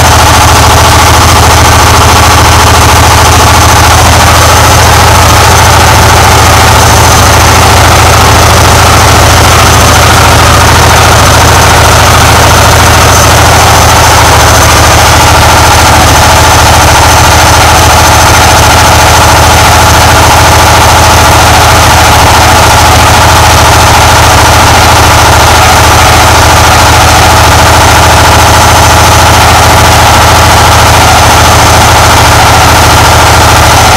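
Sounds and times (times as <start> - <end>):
washing machine spinning: 0.0 - 33.9.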